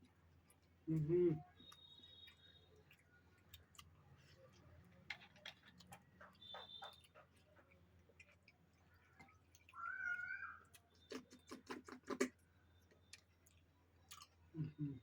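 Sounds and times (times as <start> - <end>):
wet chewing clicks: 0.0 - 15.0.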